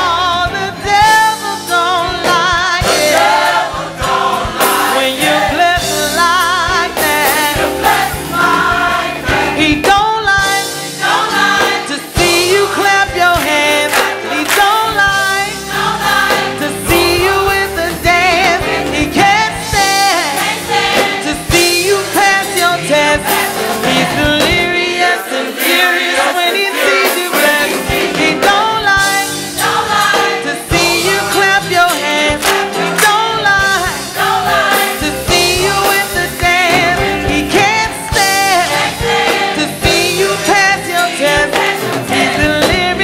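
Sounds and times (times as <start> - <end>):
choir singing with vibrato: 0.0 - 43.0
instrumental backing: 0.0 - 43.0.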